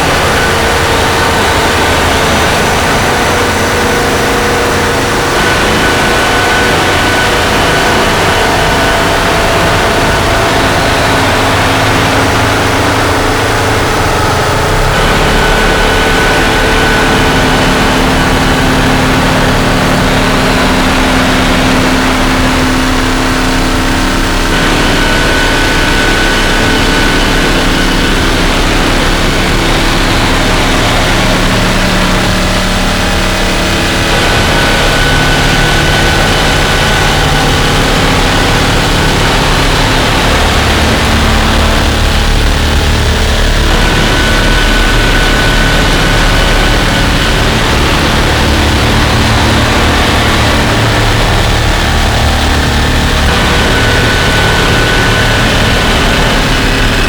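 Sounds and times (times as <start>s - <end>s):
distorted synthesizer noise drone: 0.0s - 57.0s.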